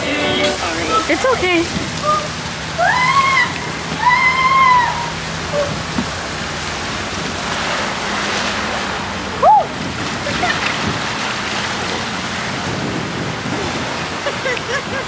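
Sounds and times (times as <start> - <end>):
water rushing down slide: 0.0 - 15.0.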